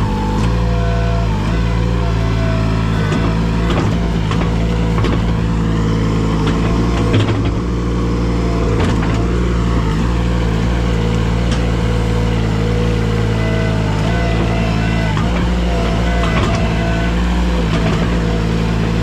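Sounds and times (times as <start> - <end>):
large engine running steadily: 0.0 - 19.0.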